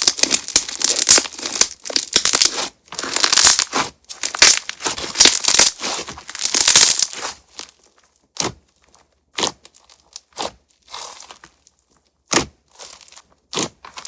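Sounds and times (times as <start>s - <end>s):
slime crackling and popping: 0.0s - 8.6s, 9.3s - 14.0s
slime crunches: 0.0s - 14.0s.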